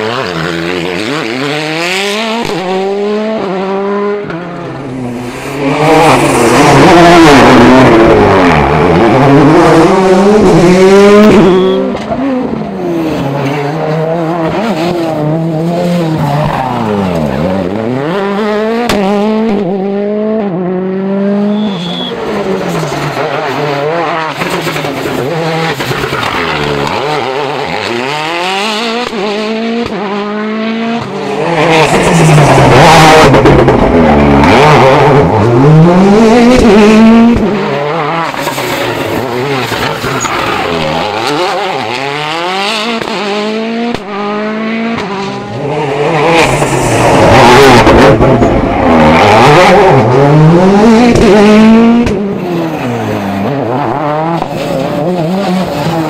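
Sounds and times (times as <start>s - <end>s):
rally car engine revving hard: 0.0s - 56.0s.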